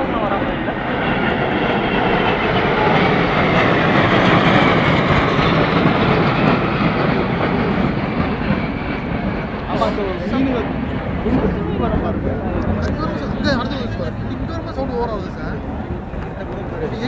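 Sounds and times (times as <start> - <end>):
jet aircraft flying overhead: 0.0 - 17.0.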